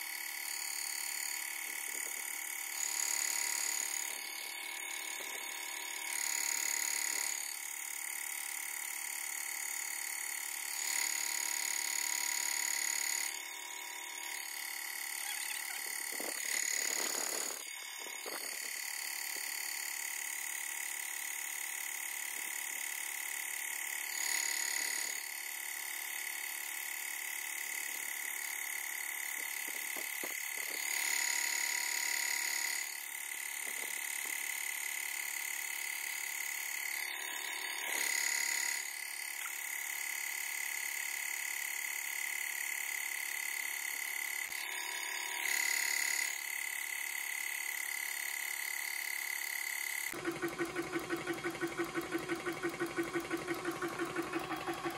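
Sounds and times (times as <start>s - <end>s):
air compressor high whine: 0.0s - 54.9s.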